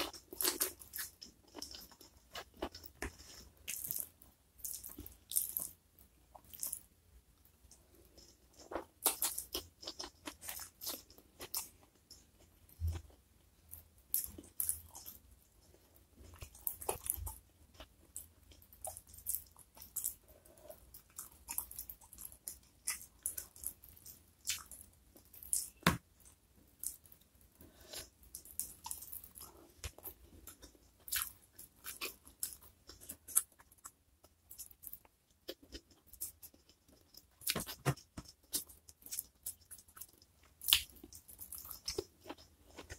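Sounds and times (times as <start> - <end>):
chewing and crunching food: 0.0 - 42.9.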